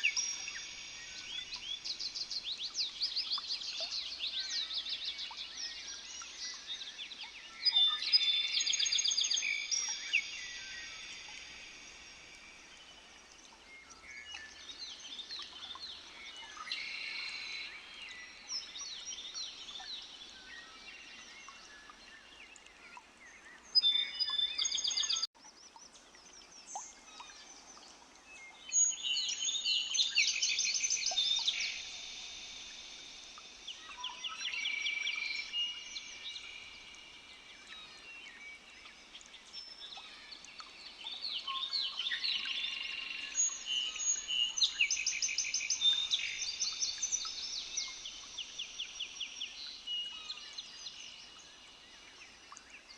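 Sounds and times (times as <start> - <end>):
birds singing and chirping: 0.0 - 52.9.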